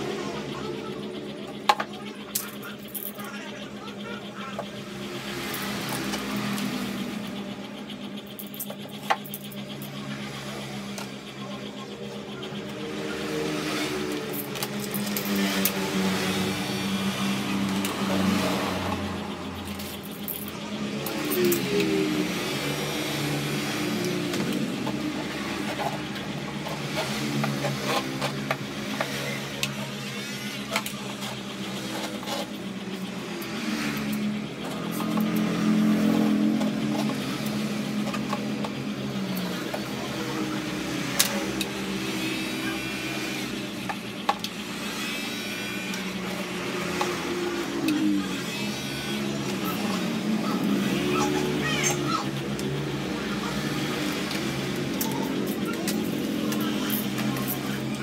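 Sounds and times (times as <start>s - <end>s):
engines running and revving: 0.0s - 58.0s.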